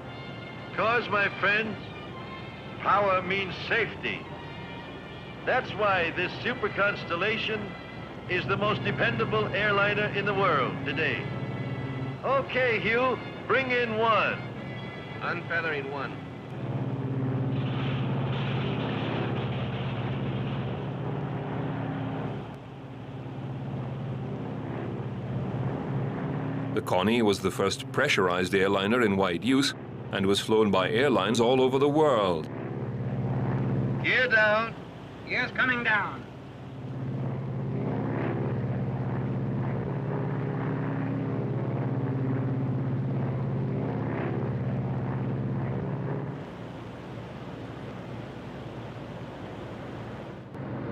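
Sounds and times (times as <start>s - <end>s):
piston engines droning in flight: 0.0s - 50.9s.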